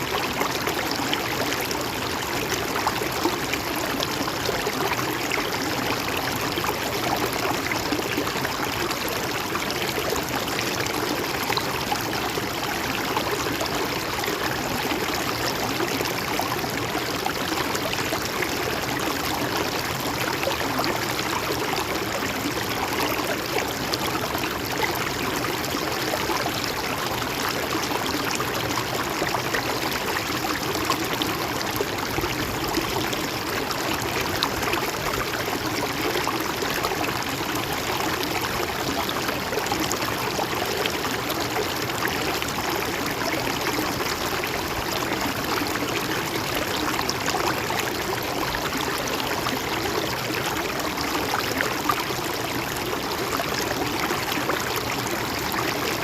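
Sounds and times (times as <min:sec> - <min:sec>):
water flowing over rocks: 0:00.0 - 0:56.0.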